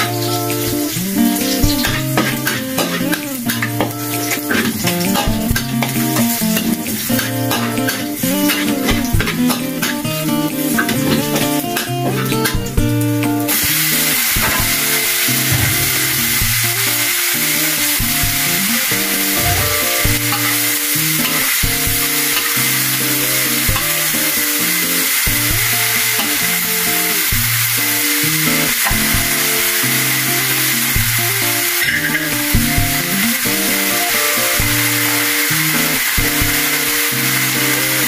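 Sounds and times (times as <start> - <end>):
food sizzling in a wok: 0.0 - 38.0.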